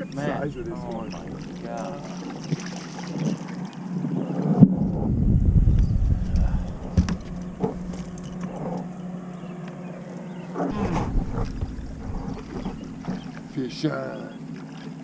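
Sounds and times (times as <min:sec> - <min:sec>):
wind rumble on microphone: 0:00.0 - 0:09.6, 0:10.5 - 0:13.7
boat motor hum: 0:00.0 - 0:15.0.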